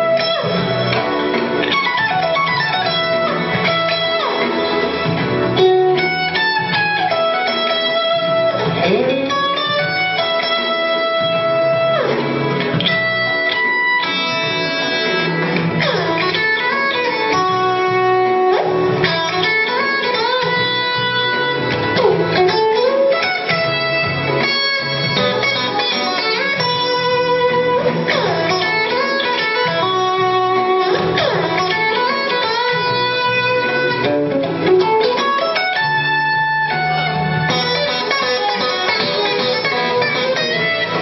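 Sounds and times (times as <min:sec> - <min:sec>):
electric guitar melody: 0:00.0 - 0:41.0.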